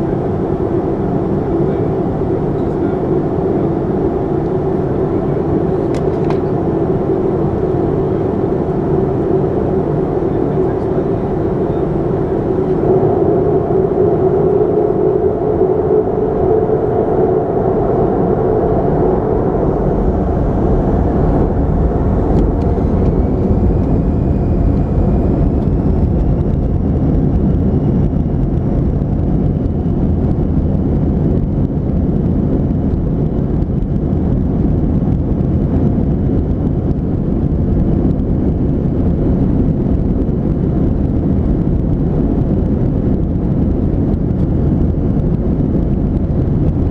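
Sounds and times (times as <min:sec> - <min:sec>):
faint rising whine: 0:00.0 - 0:46.9
hum: 0:00.0 - 0:46.9
jet engine cabin rush: 0:00.0 - 0:46.9.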